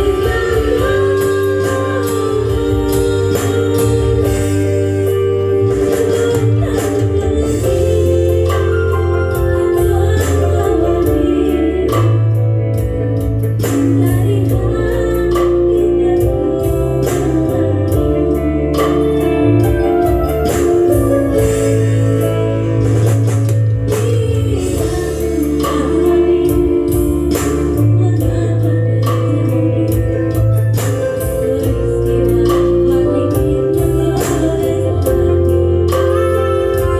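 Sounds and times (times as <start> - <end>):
electronic keyboard music with drums: 0.0 - 36.9.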